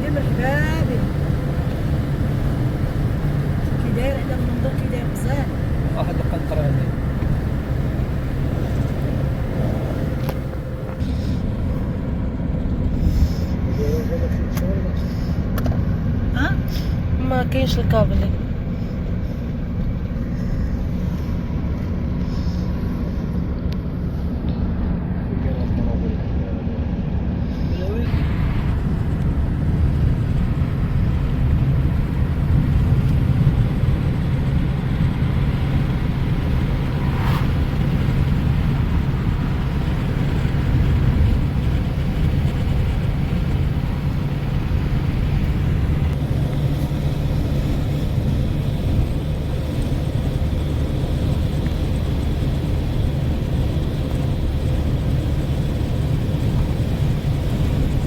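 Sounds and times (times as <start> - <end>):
car driving on road: 0.0 - 58.0.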